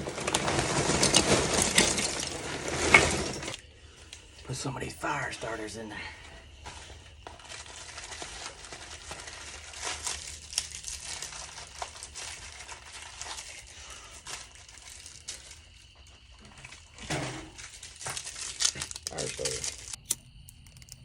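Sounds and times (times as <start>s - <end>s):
crinkling and rustling: 0.0s - 4.3s, 6.5s - 21.0s.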